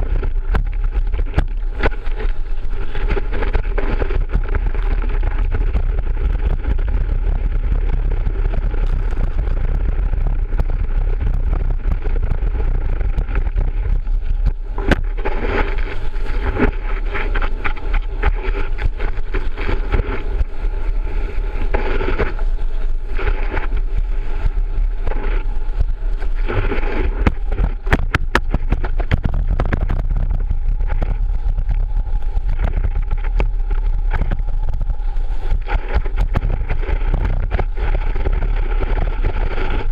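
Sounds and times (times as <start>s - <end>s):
water ski low rumble: 0.0s - 39.9s.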